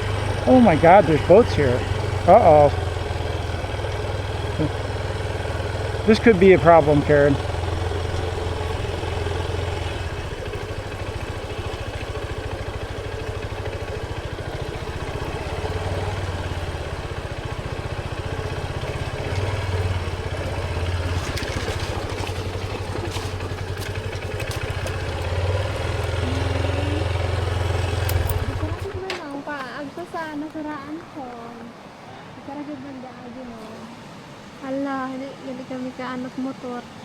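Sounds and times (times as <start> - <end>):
motorcycle engine running: 0.0 - 32.8.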